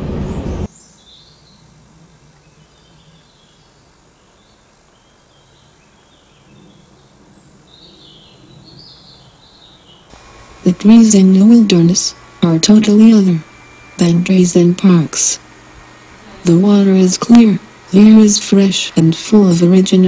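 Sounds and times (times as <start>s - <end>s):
faint birds chirping: 0.7s - 20.0s.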